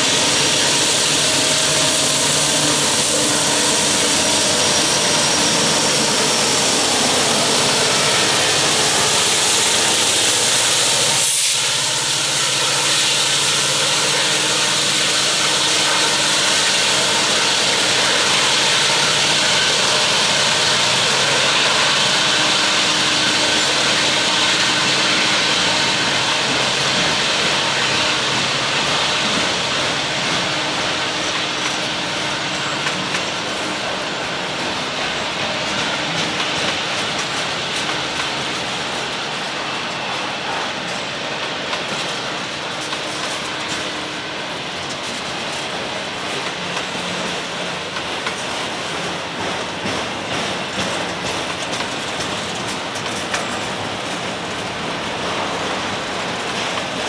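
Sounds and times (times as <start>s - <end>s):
train wheels on rail: 0.0s - 57.0s.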